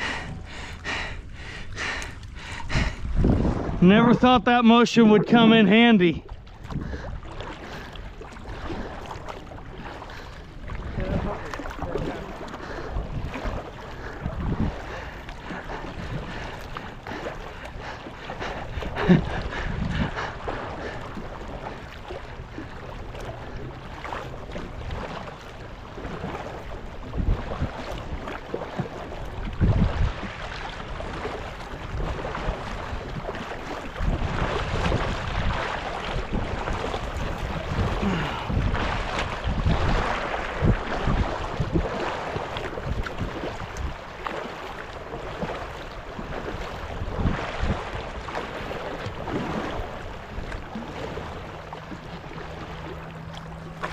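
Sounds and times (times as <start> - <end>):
paddle splashes and swishes: 0.0 - 53.9
wind buffeting microphone: 0.0 - 53.9.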